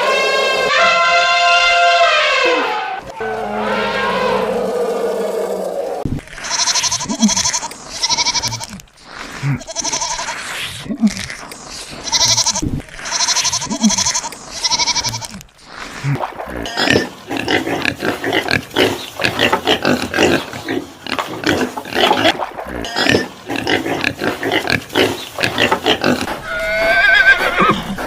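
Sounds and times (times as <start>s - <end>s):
animal grunting and squealing calls: 2.6s - 28.0s.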